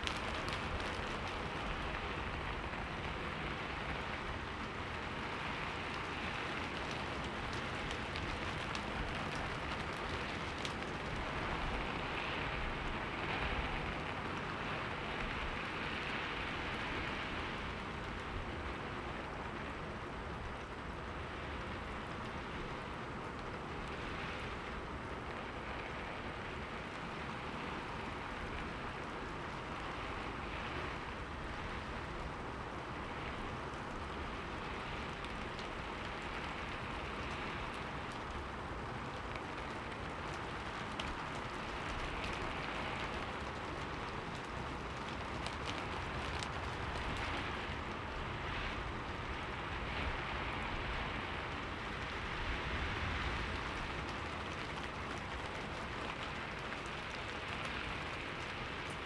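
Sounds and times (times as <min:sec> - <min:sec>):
rain pattering on a window: 0:00.0 - 0:59.0.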